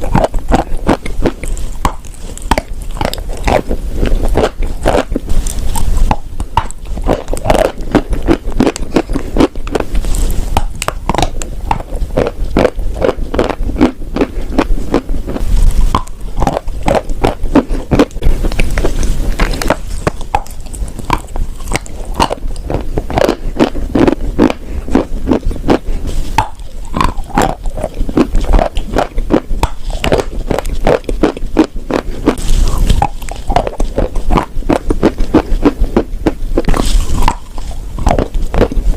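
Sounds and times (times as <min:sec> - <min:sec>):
chalk and clay chewing crunches: 0:00.0 - 0:38.9.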